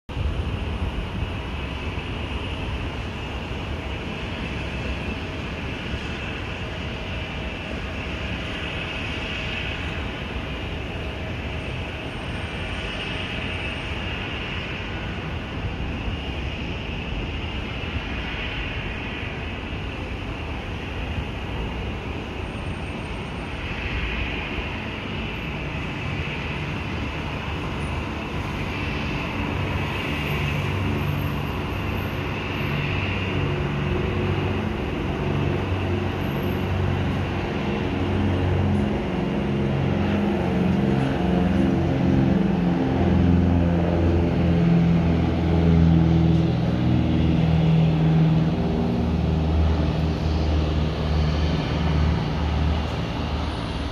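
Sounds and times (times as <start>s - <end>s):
propeller plane engine drone: 0.1s - 53.9s
distant traffic noise: 1.2s - 53.9s.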